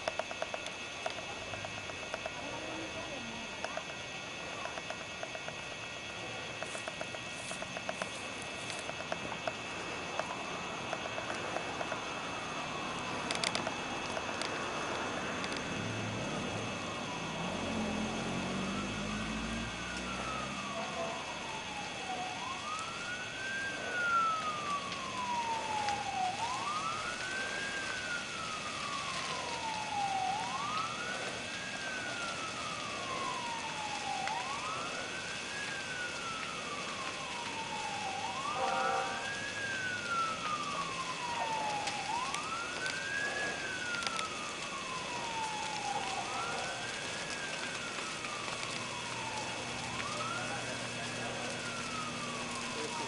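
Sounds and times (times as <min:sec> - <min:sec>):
emergency vehicle siren wailing: 0:00.0 - 0:53.0.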